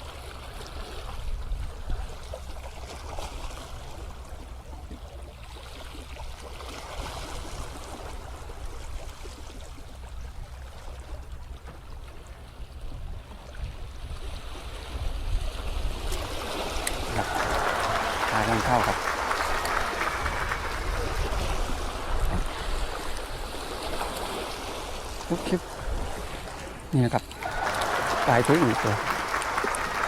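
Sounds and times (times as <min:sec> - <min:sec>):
sea water sloshing against rocks: 0:00.0 - 0:30.0.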